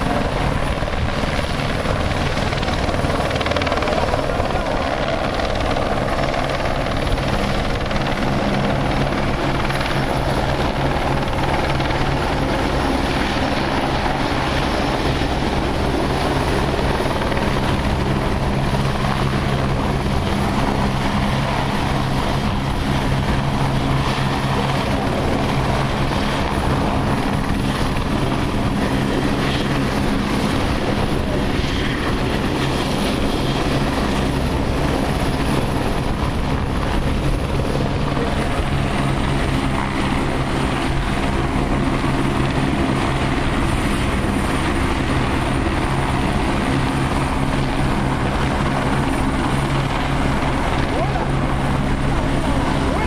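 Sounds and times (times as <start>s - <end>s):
helicopter rotor and turbine: 0.0s - 53.0s
high turbine whine: 0.0s - 53.0s.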